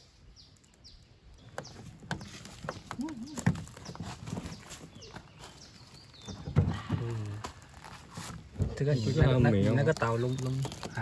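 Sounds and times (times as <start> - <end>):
fruit husk cracking open: 0.2 - 11.0.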